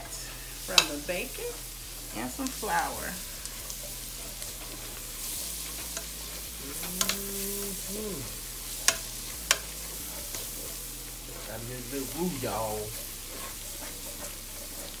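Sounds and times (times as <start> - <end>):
vegetables sizzling in a pot: 0.0 - 15.0
spoon stirring: 0.5 - 15.0.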